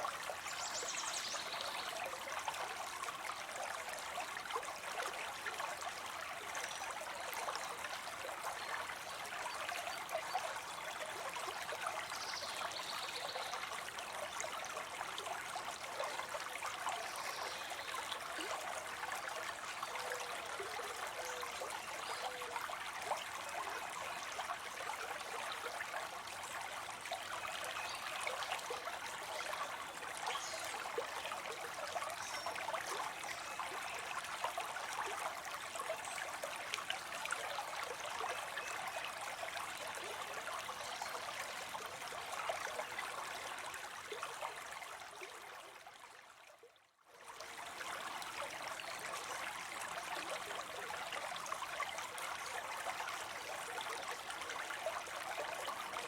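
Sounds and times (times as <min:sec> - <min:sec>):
water trickling into pond: 0:00.0 - 0:56.0.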